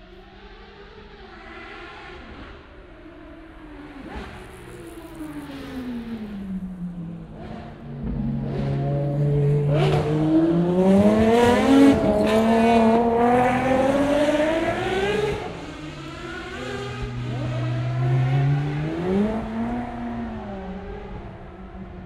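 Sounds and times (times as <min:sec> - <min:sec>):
race car engine accelerating: 0:00.4 - 0:22.0.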